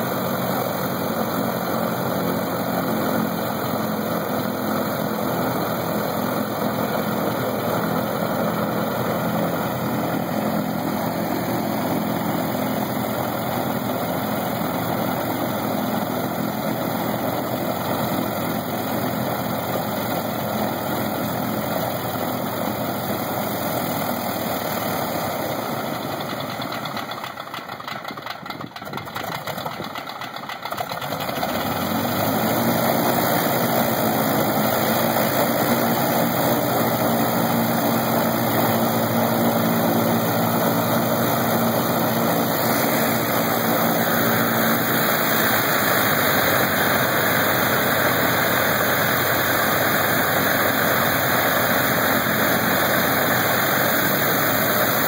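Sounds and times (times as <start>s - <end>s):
radial engine running: 0.0s - 55.0s.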